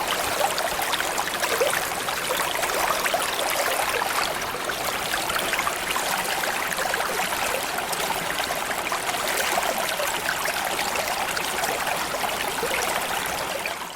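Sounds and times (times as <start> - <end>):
stream flowing over stones: 0.0 - 13.9.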